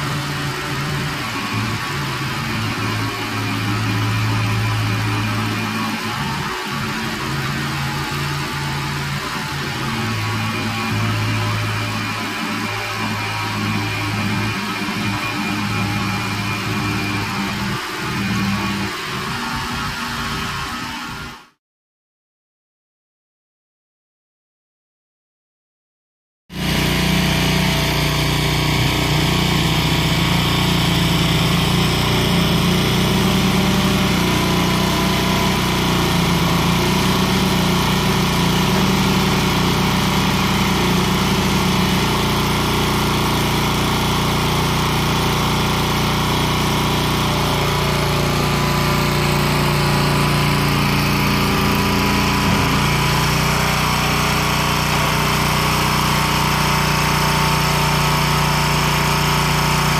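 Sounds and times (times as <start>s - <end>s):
small gasoline engine running: 0.0s - 21.2s, 26.6s - 59.9s.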